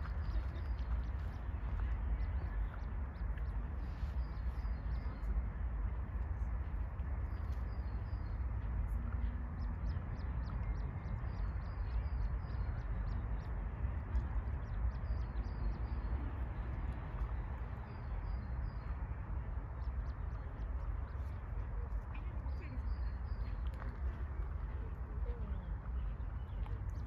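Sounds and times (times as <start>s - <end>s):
small birds chirping and trilling: 0.0s - 27.0s
steady low rumble: 0.0s - 27.0s.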